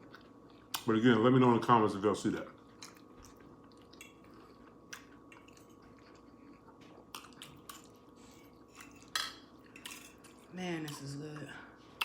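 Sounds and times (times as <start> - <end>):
steady room hum: 0.0 - 12.0
faint chewing: 2.2 - 12.0.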